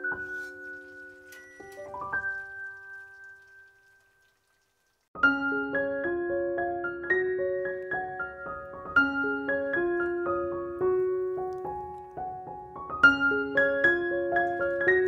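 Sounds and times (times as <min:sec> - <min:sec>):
solo piano melody: 0:00.0 - 0:03.9, 0:05.2 - 0:15.0.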